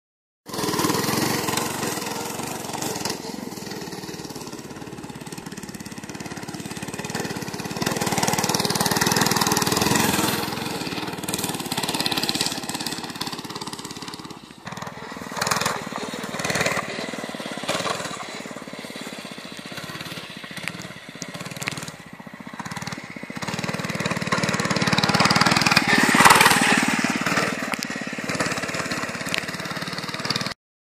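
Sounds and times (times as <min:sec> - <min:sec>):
mini bike engines revving: 0:00.5 - 0:30.6.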